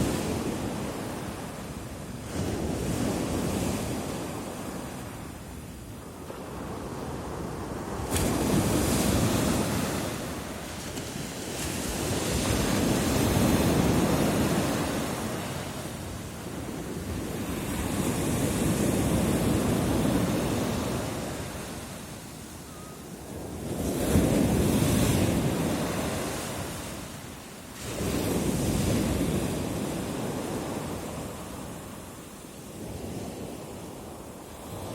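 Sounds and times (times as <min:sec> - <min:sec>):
waves breaking on shore: 0:00.0 - 0:34.9.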